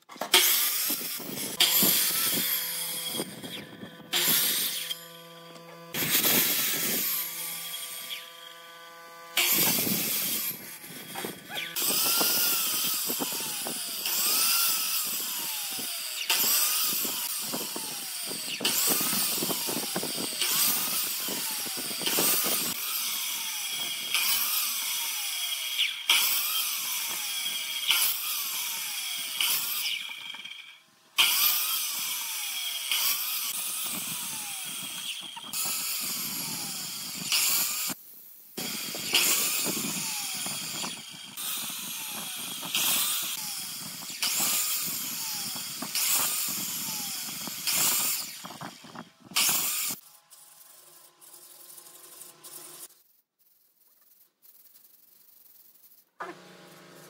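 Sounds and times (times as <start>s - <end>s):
miter saw cutting wood: 0.1s - 38.0s, 38.6s - 52.9s.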